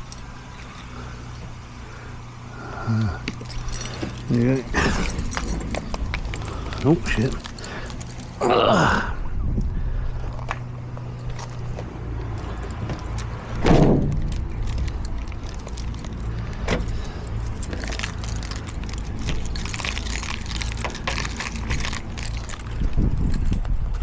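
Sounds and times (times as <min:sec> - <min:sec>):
small metal clicks and rattles: 0:00.0 - 0:02.1, 0:03.0 - 0:08.4, 0:11.1 - 0:24.0.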